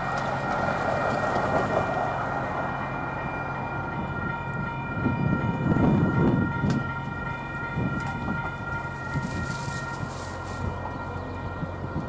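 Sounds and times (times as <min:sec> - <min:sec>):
crossing warning bells ringing: 0:00.0 - 0:12.0
low train rumble: 0:00.0 - 0:12.0.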